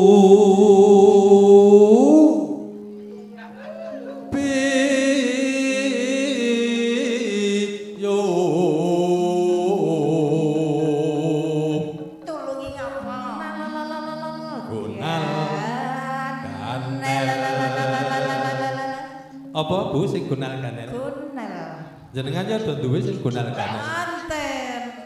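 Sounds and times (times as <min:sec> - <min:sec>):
person singing into a microphone: 0:00.0 - 0:20.2.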